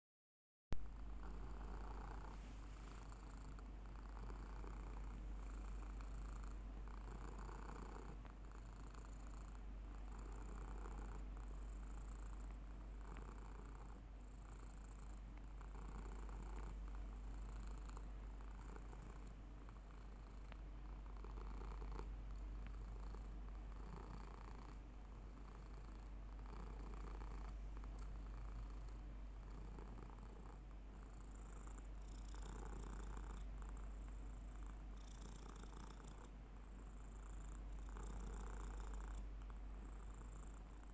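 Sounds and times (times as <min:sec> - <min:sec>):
cat purring: 0:00.7 - 0:40.9.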